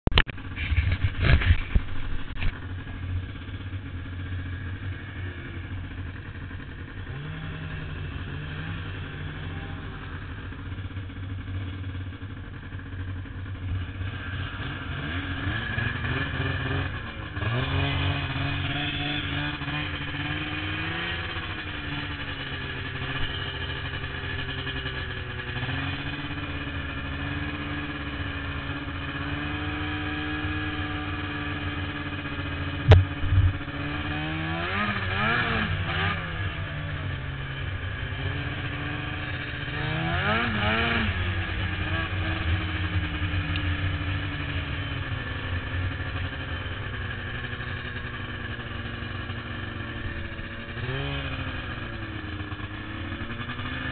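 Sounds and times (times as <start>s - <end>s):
vehicle engine revving: 0.4s - 53.9s.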